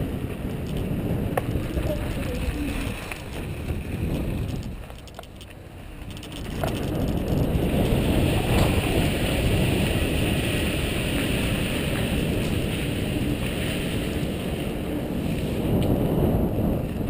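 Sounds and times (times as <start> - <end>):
bike tyres rolling on dirt: 0.0 - 17.0
wind over microphone: 0.0 - 17.0.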